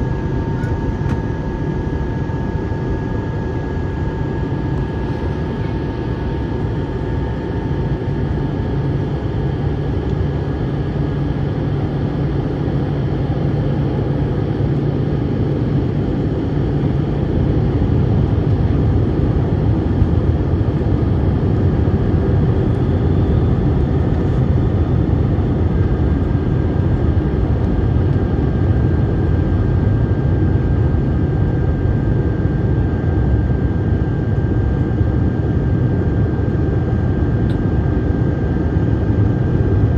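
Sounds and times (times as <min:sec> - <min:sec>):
airliner cabin engine rush: 0:00.0 - 0:39.9.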